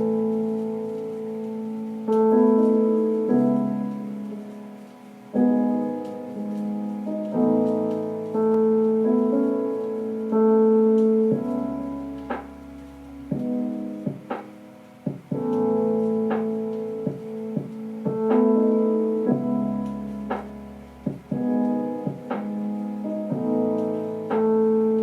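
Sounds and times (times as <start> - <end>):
piano playing slow chords: 0.0 - 25.0.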